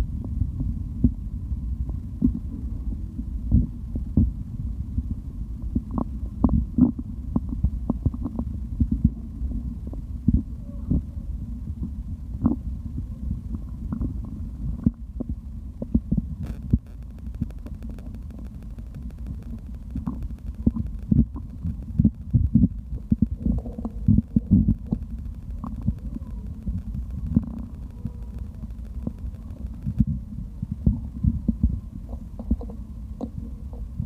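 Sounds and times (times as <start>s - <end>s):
stomach rumbling: 0.0s - 34.0s
stomach gurgles and pops: 1.8s - 4.4s, 5.0s - 34.0s.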